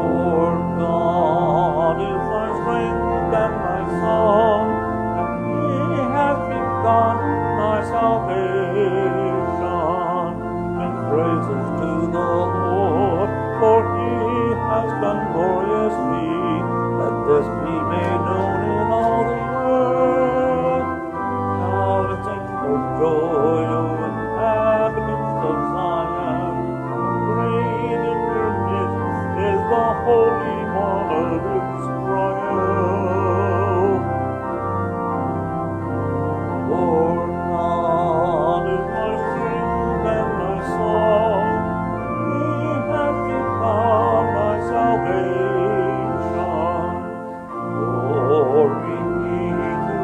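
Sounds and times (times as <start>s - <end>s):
voices singing: 0.0s - 34.1s, 36.7s - 50.0s
organ playing hymn chords: 0.0s - 50.0s.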